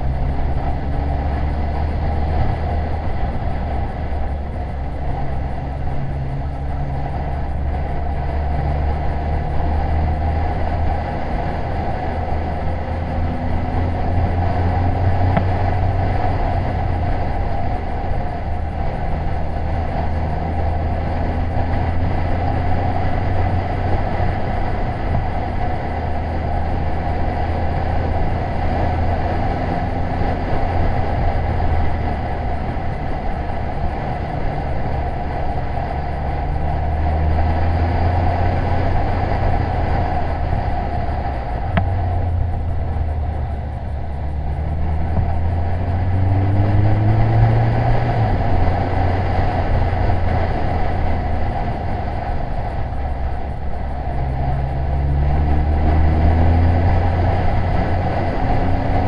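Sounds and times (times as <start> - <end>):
low wind rumble on microphone: 0.0 - 59.0
motorcycle engine at cruising revs: 0.0 - 59.0.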